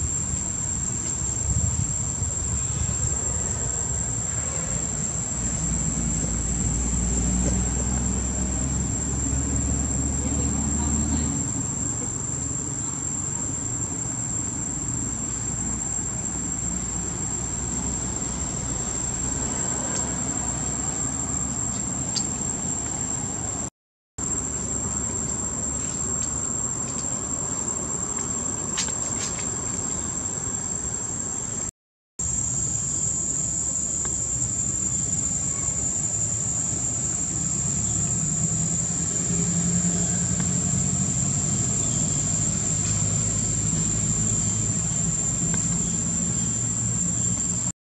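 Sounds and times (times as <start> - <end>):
high-pitched insect drone: 0.0 - 47.7.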